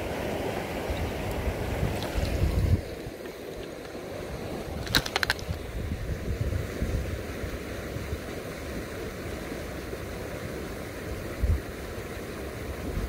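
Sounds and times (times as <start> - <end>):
wind rumbling on microphone: 0.0 - 9.1, 10.9 - 13.0
river current rushing: 0.0 - 13.0.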